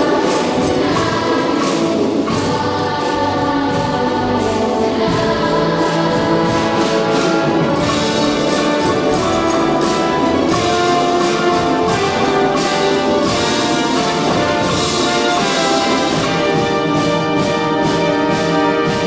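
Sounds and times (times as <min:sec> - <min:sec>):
orchestra playing loud chords: 0:00.0 - 0:19.0
percussion strokes: 0:00.0 - 0:19.0.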